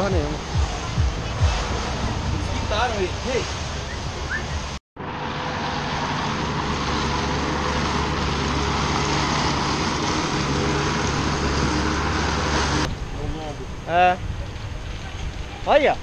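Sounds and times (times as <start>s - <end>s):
vehicle engine humming: 0.0s - 16.0s
wind and road noise: 0.0s - 16.0s.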